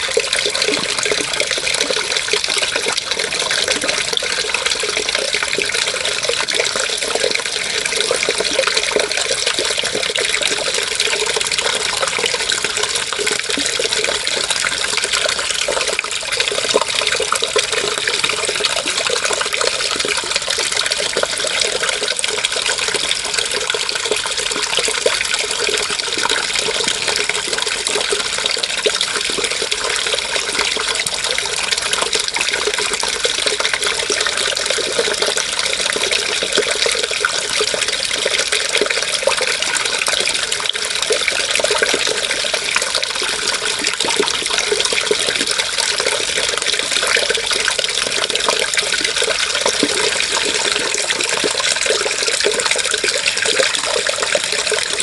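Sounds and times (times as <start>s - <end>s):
water running: 0.0s - 55.0s.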